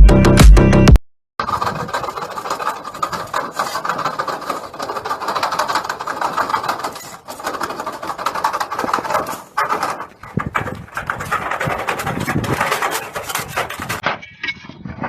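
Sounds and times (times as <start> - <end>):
machine rattling: 1.4 - 14.0.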